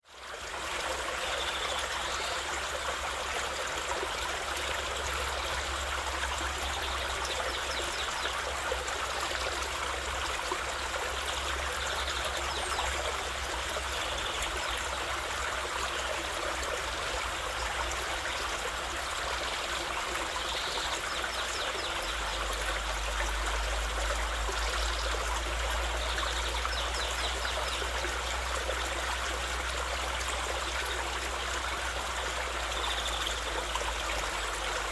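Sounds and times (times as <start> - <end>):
stream trickling: 0.0 - 34.9.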